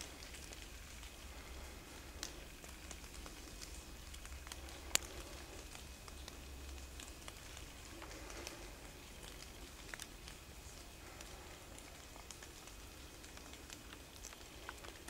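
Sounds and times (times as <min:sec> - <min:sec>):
light ticks and crackles: 0:00.0 - 0:15.0
steady low rumble: 0:00.0 - 0:15.0.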